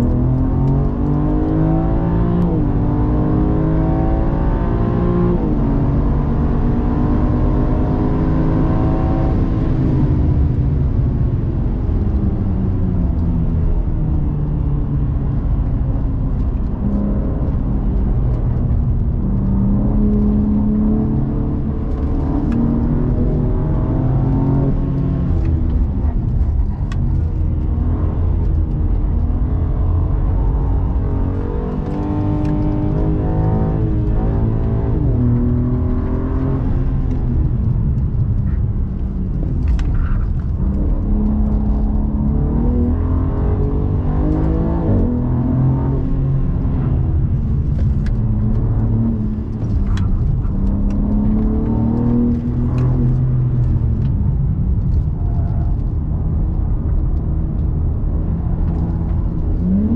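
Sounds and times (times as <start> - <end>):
car engine accelerating: 0.0 - 59.9
low rumble: 9.0 - 59.9.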